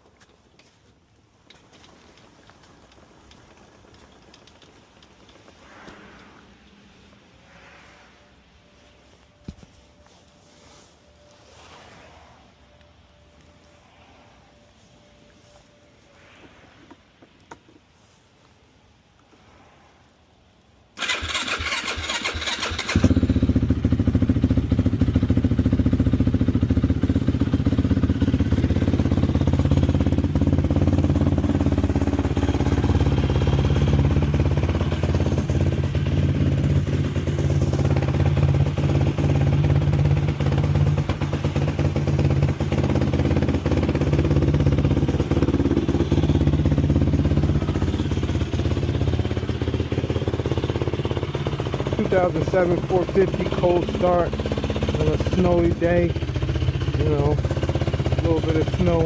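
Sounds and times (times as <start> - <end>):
engine cranking and idling: 0.2 - 11.7, 20.5 - 59.0.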